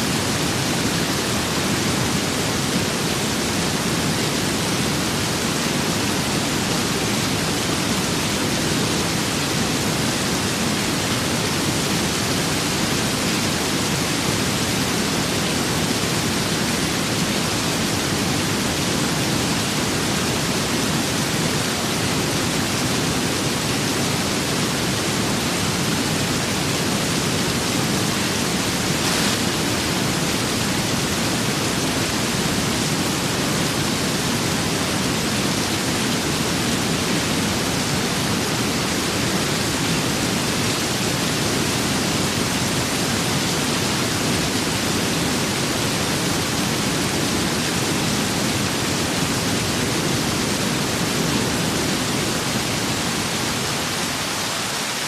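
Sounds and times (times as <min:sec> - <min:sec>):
rain and wind hiss: 0:00.0 - 0:55.0.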